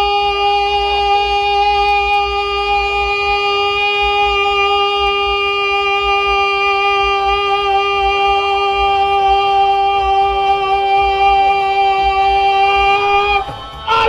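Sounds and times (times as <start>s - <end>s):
long wind instrument note: 0.0s - 14.0s
low drumbeats: 0.0s - 14.0s.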